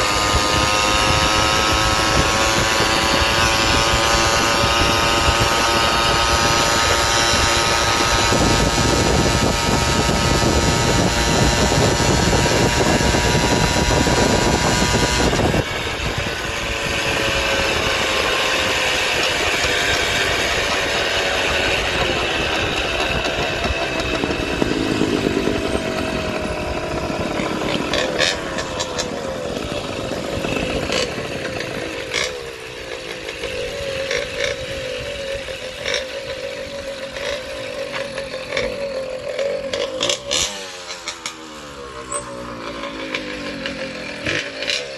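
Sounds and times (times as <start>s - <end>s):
small motorized bicycle engine: 0.0s - 44.9s.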